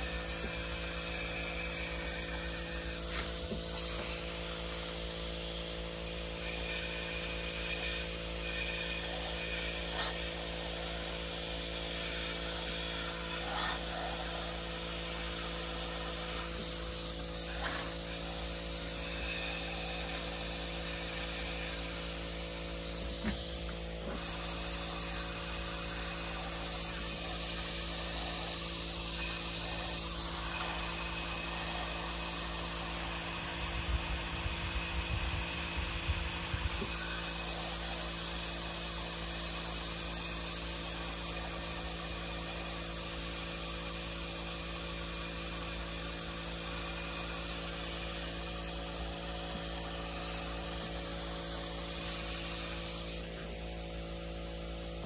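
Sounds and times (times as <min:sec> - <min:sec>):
powder coating gun hissing: 0:00.0 - 0:54.3
electrical hum: 0:00.0 - 0:55.0.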